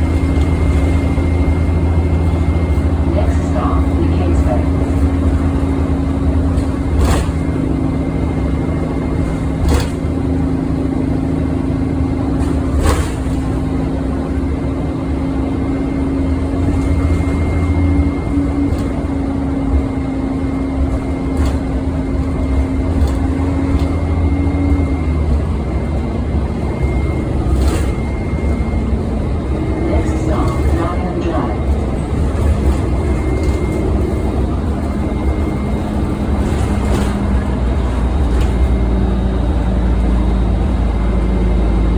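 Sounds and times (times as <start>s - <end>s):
bus engine drone: 0.0s - 41.9s
cooling fan whine: 0.0s - 41.9s.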